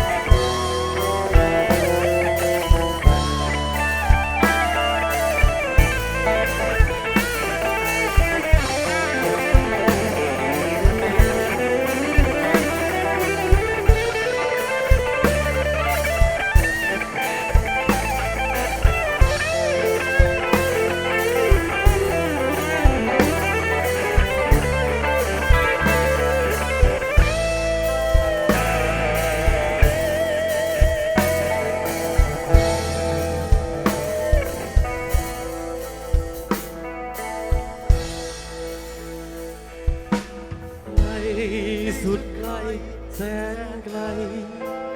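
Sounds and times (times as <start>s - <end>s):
steady drum beat: 0.0s - 43.5s
bass: 0.0s - 44.9s
electric guitar lead: 0.0s - 44.9s.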